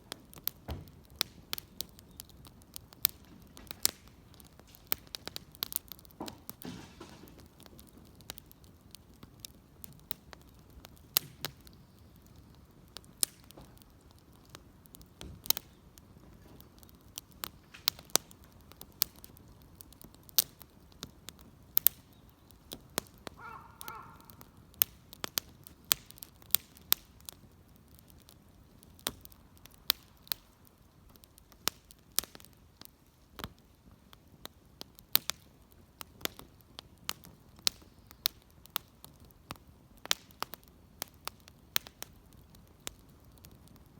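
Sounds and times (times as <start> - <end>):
bonfire crackling and popping: 0.0 - 43.9.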